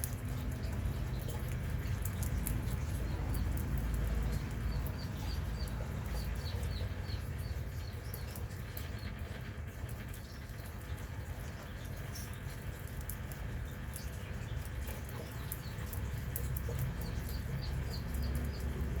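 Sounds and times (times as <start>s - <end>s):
small animals nibbling: 0.0s - 19.0s.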